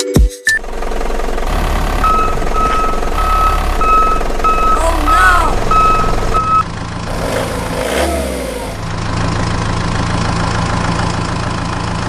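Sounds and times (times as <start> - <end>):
engine idling: 0.5 - 12.0.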